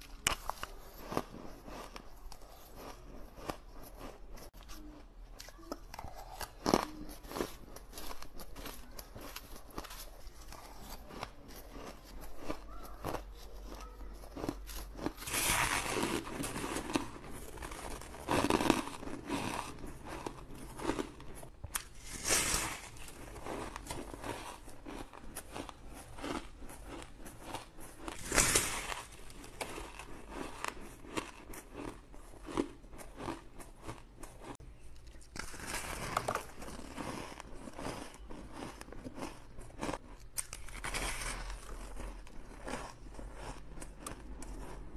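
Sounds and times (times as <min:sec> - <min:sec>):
chewing crunchy ice: 0:00.0 - 0:44.9.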